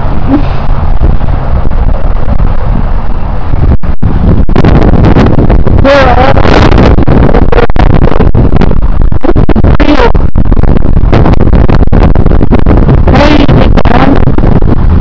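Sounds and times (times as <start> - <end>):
heavy wind buffeting microphone: 0.0 - 15.0
static: 0.0 - 15.0.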